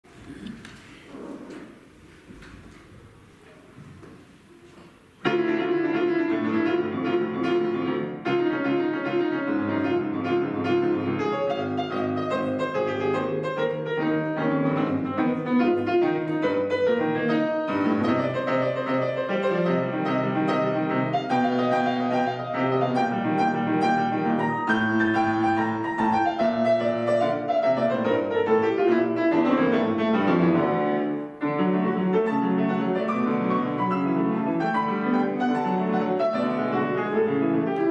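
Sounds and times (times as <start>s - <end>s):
piano playing classical piece: 5.2s - 37.9s.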